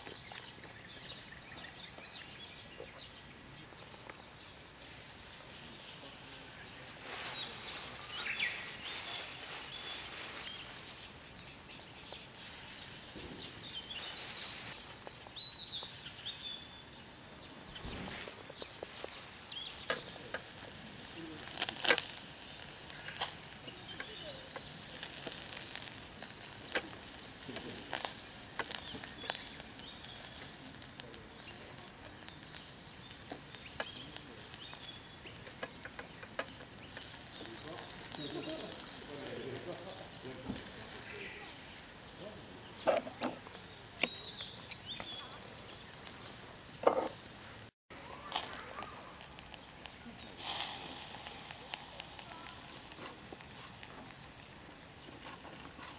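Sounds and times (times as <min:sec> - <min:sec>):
sharp crackles and pops: 0:00.0 - 0:55.9
skewers sizzling over charcoal: 0:00.0 - 0:55.9.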